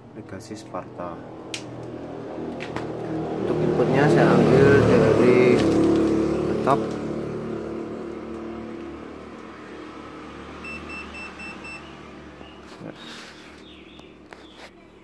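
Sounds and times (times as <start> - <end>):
vehicle engine running: 0.3 - 15.0.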